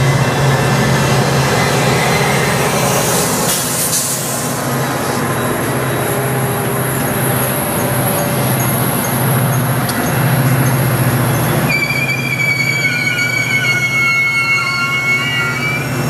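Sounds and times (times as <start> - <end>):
diesel locomotive engine drone: 0.0 - 16.0
train wheels on rails: 0.0 - 16.0.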